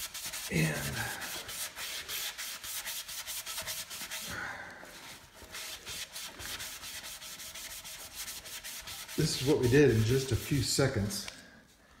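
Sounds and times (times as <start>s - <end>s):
scratchy rubbing on rusty metal: 0.0s - 4.3s, 5.0s - 10.8s.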